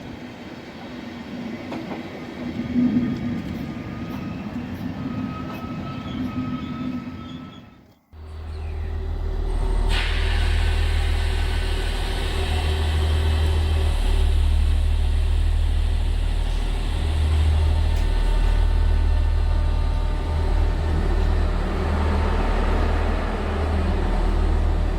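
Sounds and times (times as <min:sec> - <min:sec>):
heavy low train rumble: 0:00.0 - 0:24.9
train running: 0:00.0 - 0:24.9.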